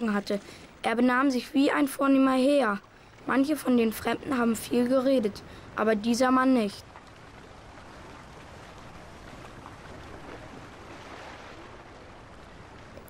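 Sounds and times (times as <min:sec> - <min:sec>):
water rushing along shoreline: 0:01.4 - 0:13.0.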